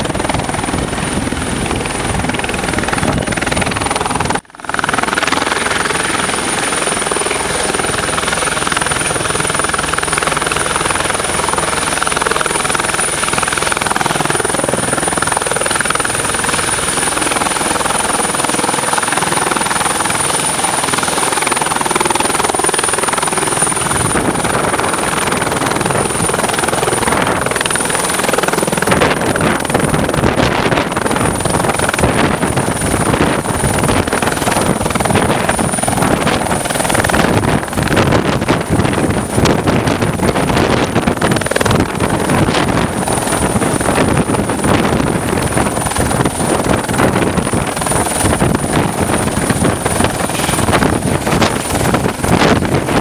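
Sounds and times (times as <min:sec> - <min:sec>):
helicopter rotor and turbine: 0:00.0 - 0:53.0
high-pitched turbine whine: 0:00.0 - 0:53.0.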